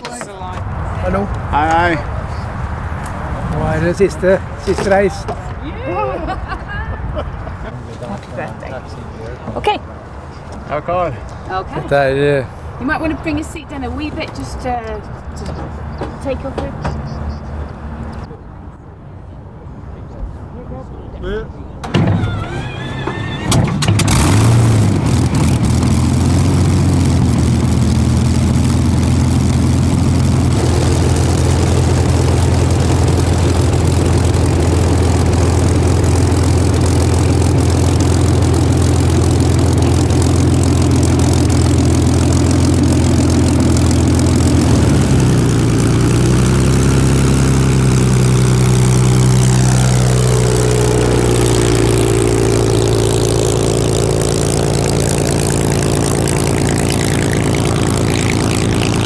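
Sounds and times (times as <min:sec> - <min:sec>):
aircraft engine running: 0:00.0 - 0:18.3, 0:21.8 - 0:59.0.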